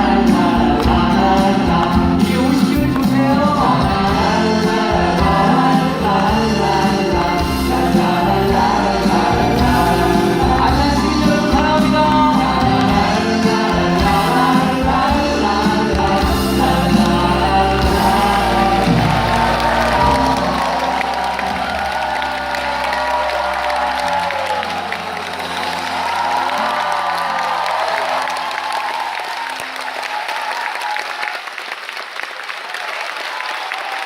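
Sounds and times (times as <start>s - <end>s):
voices singing together: 0.0s - 29.1s
band accompaniment: 0.0s - 30.2s.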